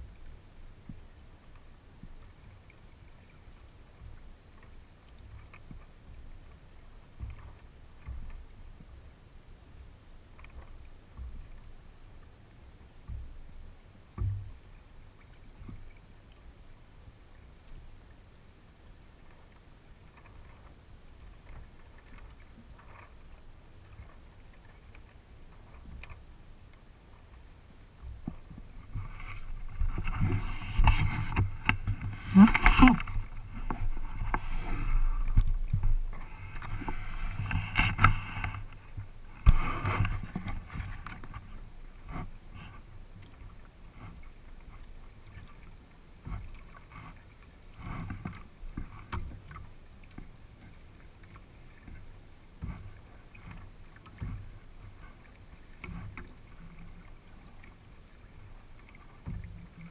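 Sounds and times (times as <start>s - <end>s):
water lapping against kayak hull: 0.0s - 59.9s.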